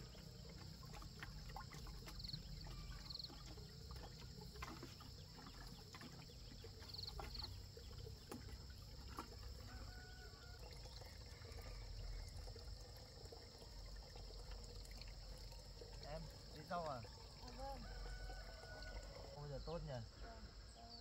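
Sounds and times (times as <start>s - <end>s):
water pouring and trickling: 0.0s - 21.0s.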